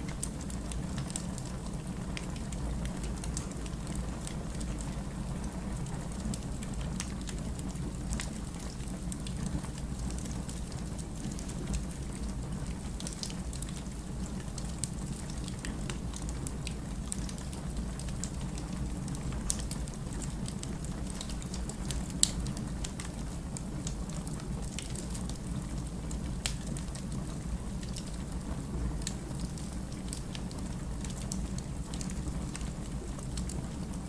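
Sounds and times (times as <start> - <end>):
fire low rumble: 0.0 - 34.0
wood fire crackling and popping: 0.0 - 34.0.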